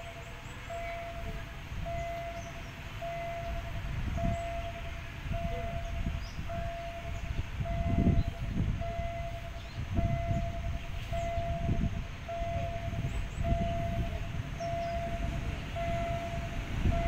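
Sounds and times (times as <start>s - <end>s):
low gusty rumble: 0.0s - 17.0s
railway warning beeps: 0.0s - 17.0s.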